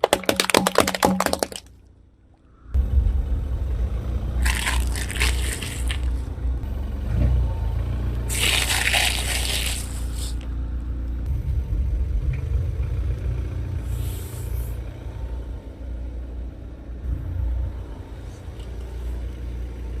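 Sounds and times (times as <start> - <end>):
car engine low rumble: 1.7 - 20.0.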